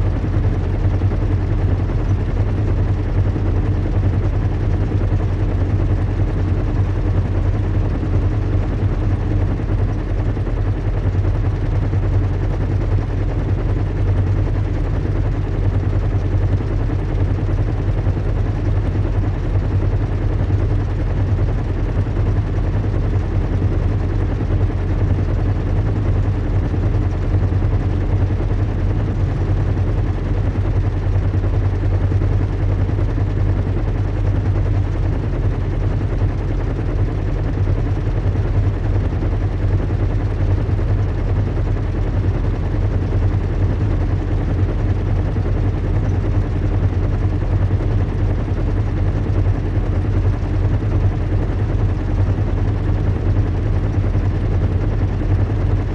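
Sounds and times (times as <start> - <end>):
engines humming and rumbling: 0.0 - 55.9.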